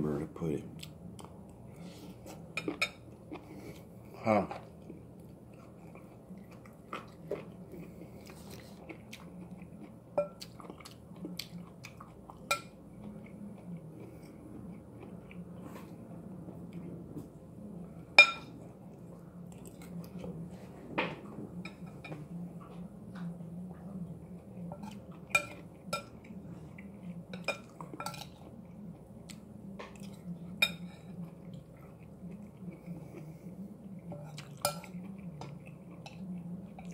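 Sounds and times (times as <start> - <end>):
quiet chewing: 0.7 - 36.9.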